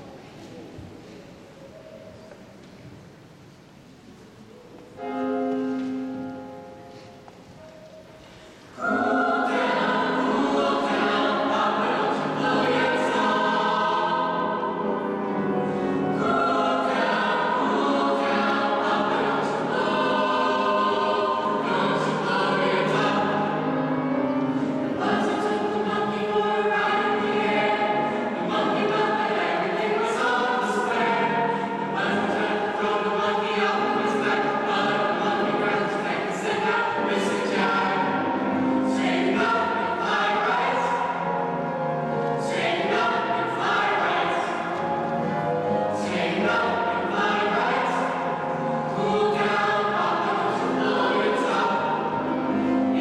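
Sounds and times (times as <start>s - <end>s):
vocal ensemble singing in harmony: 8.2s - 53.0s.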